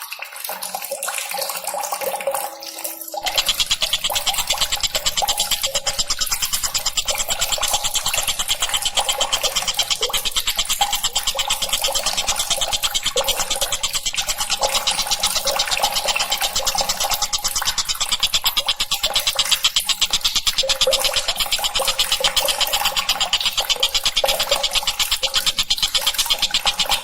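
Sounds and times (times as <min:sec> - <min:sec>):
kingfisher scratchy chatter: 0:02.9 - 0:27.0.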